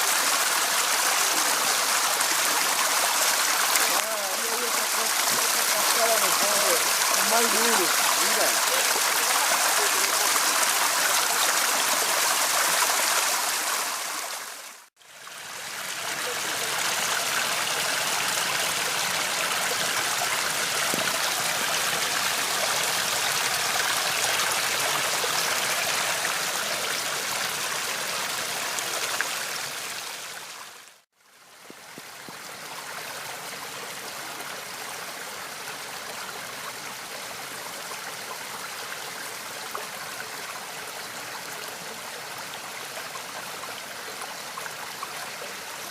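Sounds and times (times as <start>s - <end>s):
fountain water rushing and splashing: 0.0s - 45.9s.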